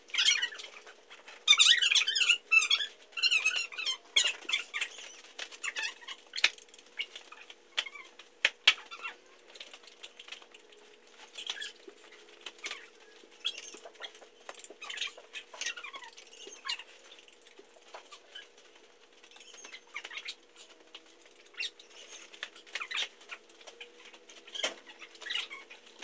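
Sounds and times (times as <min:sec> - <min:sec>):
small birds chirping: 0:00.1 - 0:08.1, 0:08.7 - 0:26.0.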